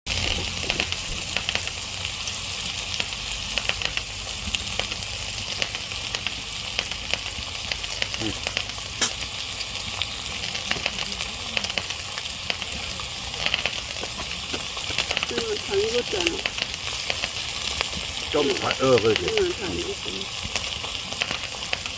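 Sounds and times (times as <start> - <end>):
fat crackling and popping: 0.1 - 21.9
food sizzling in a pan: 0.1 - 21.9.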